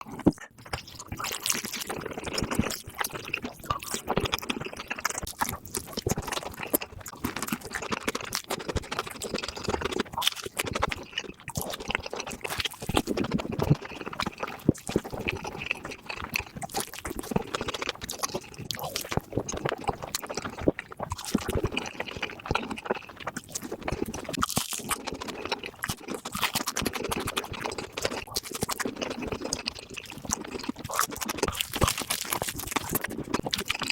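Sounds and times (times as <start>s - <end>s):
chewing with wet mouth noises: 0.0s - 33.9s.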